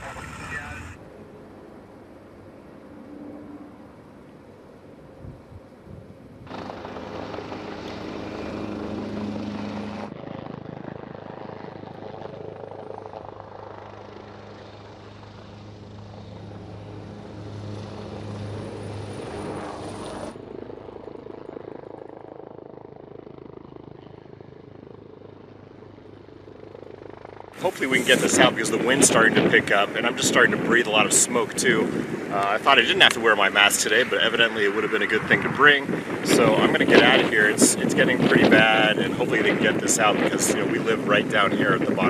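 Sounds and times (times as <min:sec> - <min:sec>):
helicopter rotor and engine: 0:00.0 - 0:42.0.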